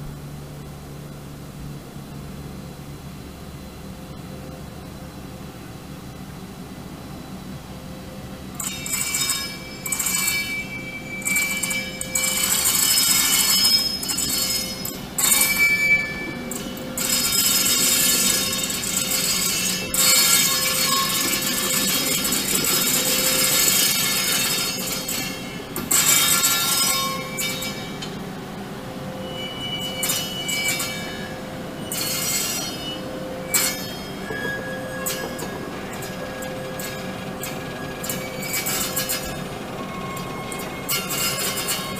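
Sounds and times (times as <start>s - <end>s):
steel wheels squealing on rails: 3.8s - 41.9s.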